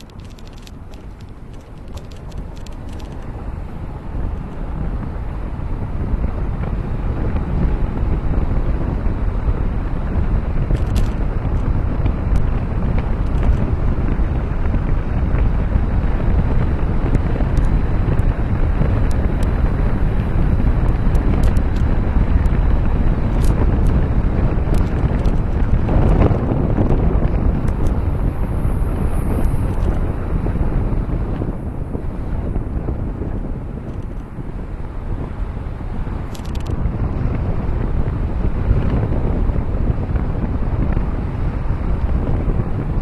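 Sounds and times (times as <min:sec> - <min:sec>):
road and tyre rumble: 0:00.0 - 0:43.0
wind rushing over microphone: 0:00.0 - 0:43.0.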